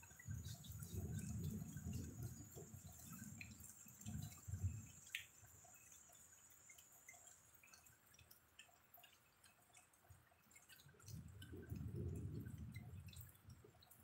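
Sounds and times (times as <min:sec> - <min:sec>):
rain drops dripping on street: 0:00.0 - 0:14.0.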